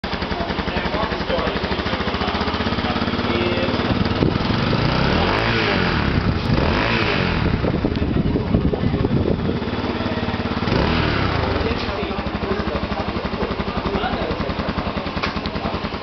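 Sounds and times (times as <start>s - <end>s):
motorcycle engine idling unevenly: 0.0s - 16.0s.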